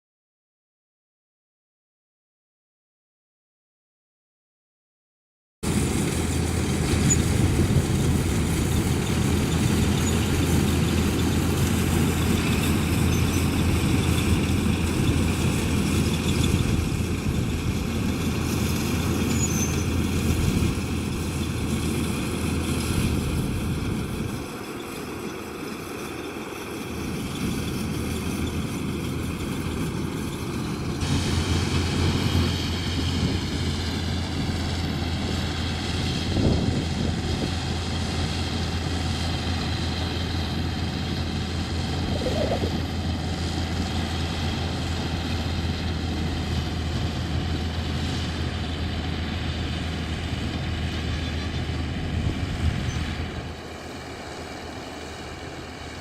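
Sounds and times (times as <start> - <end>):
diesel engine running: 5.6 - 56.0.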